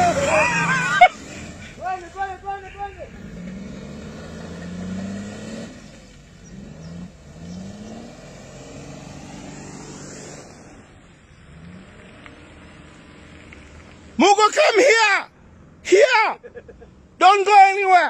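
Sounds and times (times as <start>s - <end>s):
off-road vehicle engine revving: 0.0s - 14.5s.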